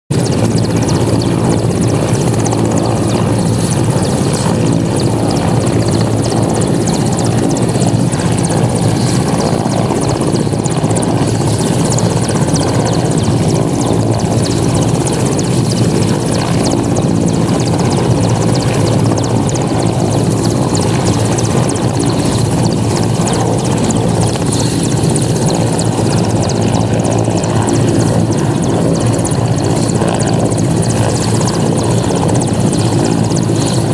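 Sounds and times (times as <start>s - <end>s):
helicopter flying: 0.1s - 33.9s.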